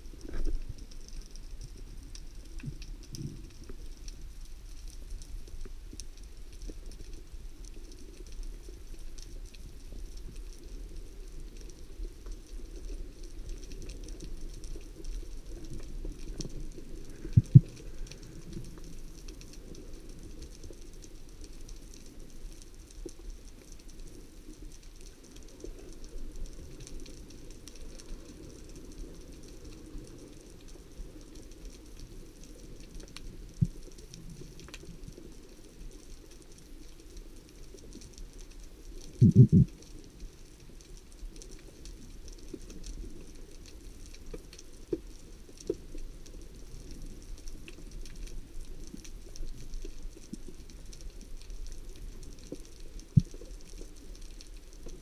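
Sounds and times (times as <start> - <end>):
faint crackling: 0.0 - 55.0
muffled underwater rumble: 0.0 - 55.0.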